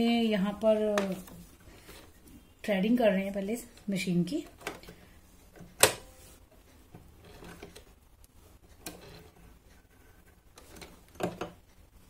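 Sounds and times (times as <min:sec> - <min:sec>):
faint rustling and tapping: 0:00.1 - 0:12.0.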